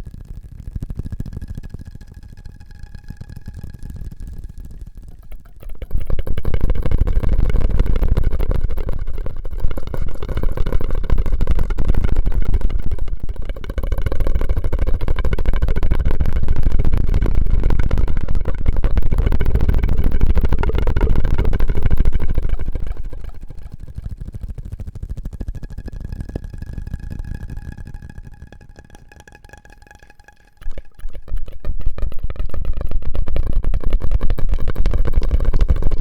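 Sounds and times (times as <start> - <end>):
mouth and straw crackling: 4.4 - 36.0.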